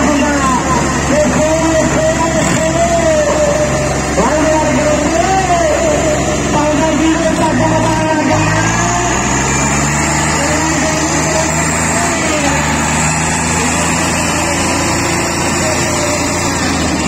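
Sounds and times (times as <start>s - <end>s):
diesel tractor engines under load: 0.0s - 17.0s.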